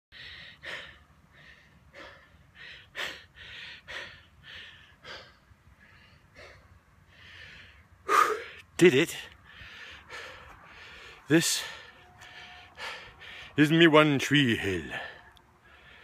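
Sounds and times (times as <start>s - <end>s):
man breathing heavily: 0.1s - 13.8s, 14.5s - 16.0s.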